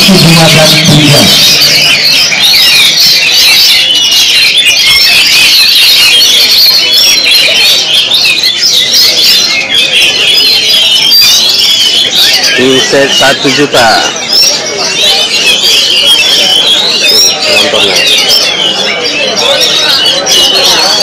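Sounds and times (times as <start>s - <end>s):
songbirds chirping chorus: 0.0s - 21.0s.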